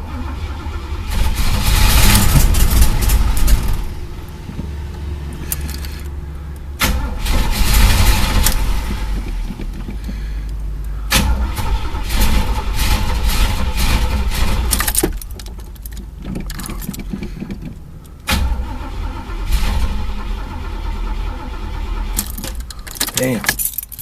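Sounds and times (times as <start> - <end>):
engine cranking by starter: 0.0 - 24.0.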